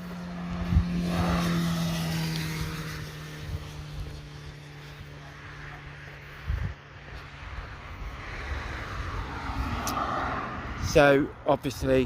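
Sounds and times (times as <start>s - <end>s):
car passing on road: 0.0s - 12.0s
wind buffeting microphone: 0.0s - 12.0s.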